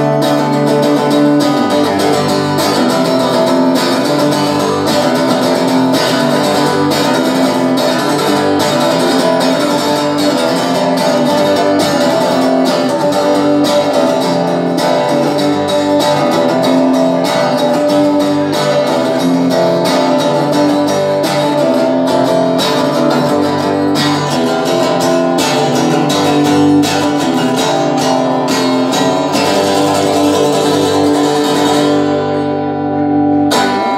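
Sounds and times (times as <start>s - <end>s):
strummed guitar: 0.0s - 33.9s.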